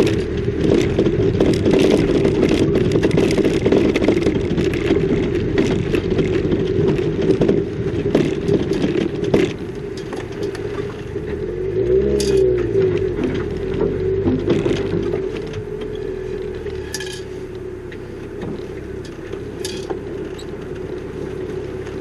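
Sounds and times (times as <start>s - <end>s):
knocks and rattles: 0.0s - 17.3s, 18.3s - 22.0s
car engine running: 0.0s - 22.0s.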